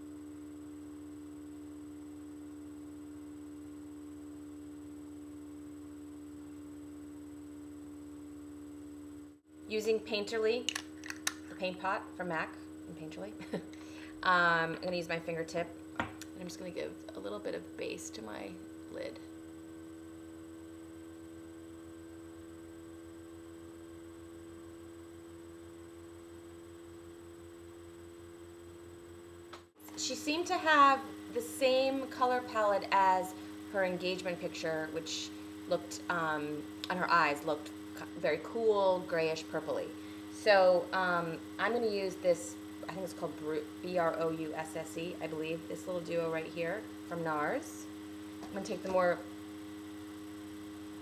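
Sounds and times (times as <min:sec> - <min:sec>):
steady multi-tone hum: 0:00.0 - 0:51.0
thin high whine: 0:00.0 - 0:51.0.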